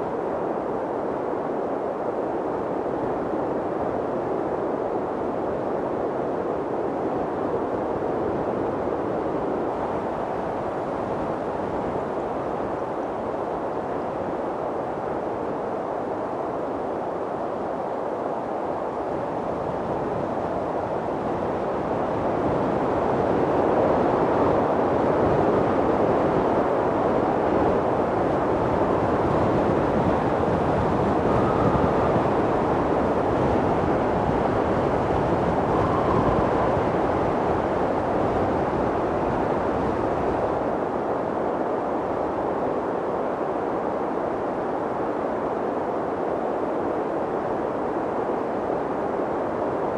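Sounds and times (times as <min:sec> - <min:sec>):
wind blowing: 0:00.0 - 0:49.9.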